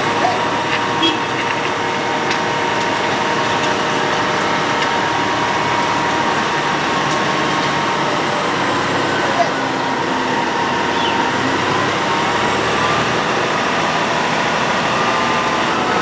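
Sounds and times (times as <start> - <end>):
road planer machine running: 0.0 - 16.0.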